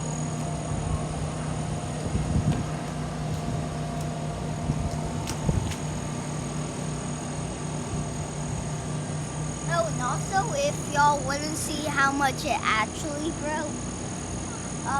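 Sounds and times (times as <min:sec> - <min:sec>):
steady mechanical hum: 0:00.0 - 0:14.9.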